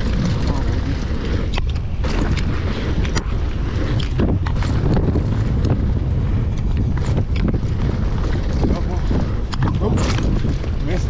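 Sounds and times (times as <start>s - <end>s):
bike clicks and rattles: 0.0s - 11.0s
bike tyre rumble on dirt: 0.0s - 11.0s
wind buffeting microphone: 0.0s - 11.0s.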